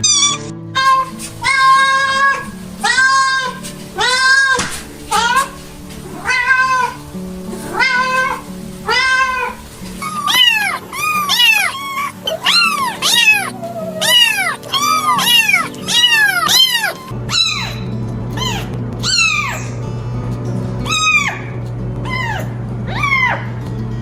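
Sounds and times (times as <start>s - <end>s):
cats meowing: 0.0s - 19.8s, 20.8s - 23.6s
background music: 0.0s - 24.0s.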